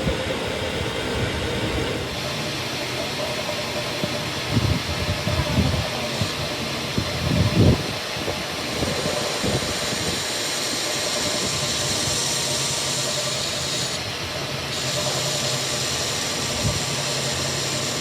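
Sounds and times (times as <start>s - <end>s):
loud machine hiss: 0.0s - 18.0s.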